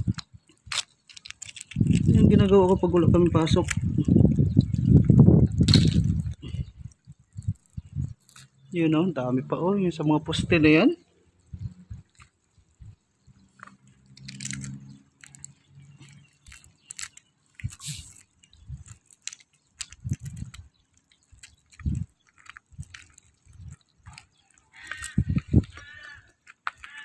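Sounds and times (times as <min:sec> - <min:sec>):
irregular clicks and crackles: 0:00.0 - 0:09.2, 0:10.9 - 0:27.0.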